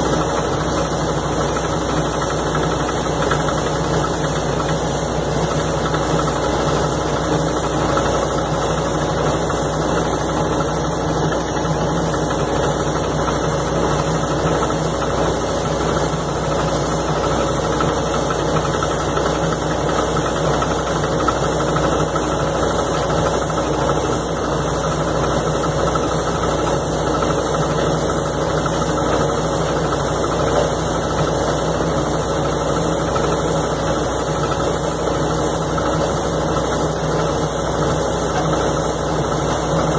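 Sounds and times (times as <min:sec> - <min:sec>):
drilling rig engine and hydraulics: 0:00.0 - 0:39.9.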